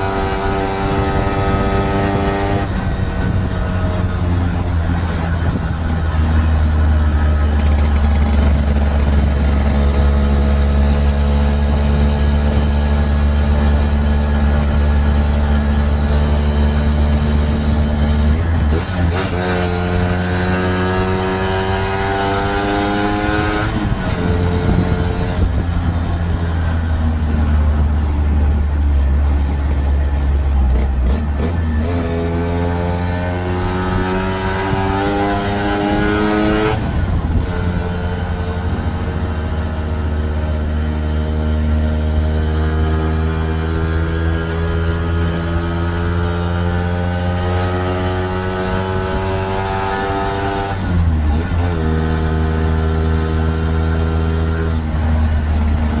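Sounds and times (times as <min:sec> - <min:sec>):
scooter two-stroke engine accelerating: 0:00.0 - 0:56.0.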